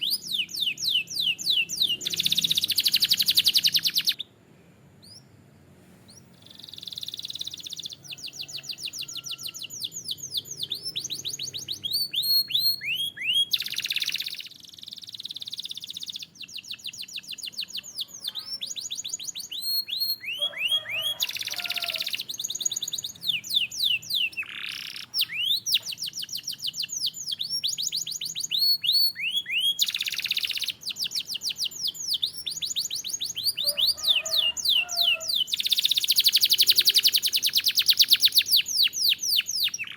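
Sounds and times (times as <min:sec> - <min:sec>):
canary singing: 0:00.0 - 0:04.3, 0:05.0 - 0:05.4, 0:06.1 - 0:39.9.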